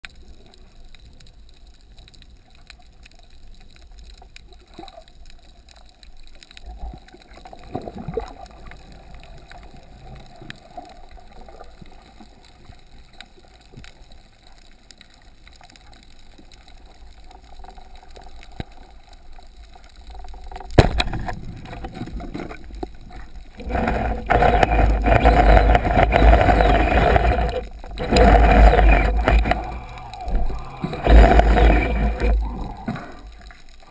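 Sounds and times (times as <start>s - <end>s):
turbulent water around camera: 0.0s - 33.9s.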